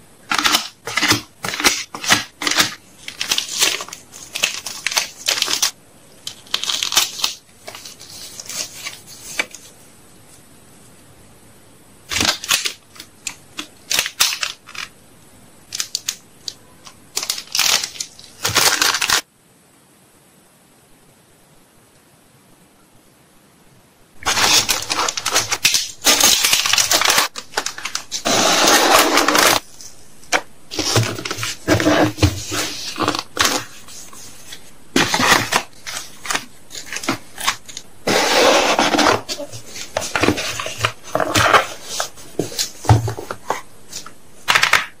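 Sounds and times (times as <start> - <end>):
packaging rustling and crinkling: 0.3 - 9.8, 12.1 - 14.9, 15.7 - 19.2, 24.2 - 45.0.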